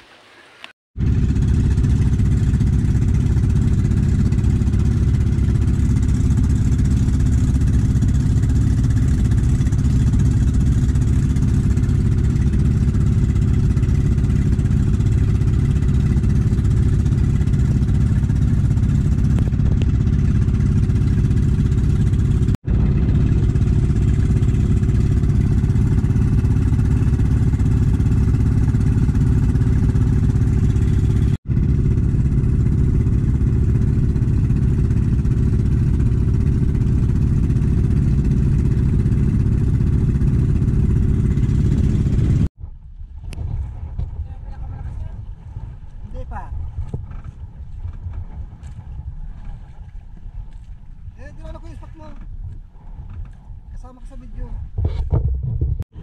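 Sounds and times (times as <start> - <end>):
boat engine running: 1.0 - 56.0.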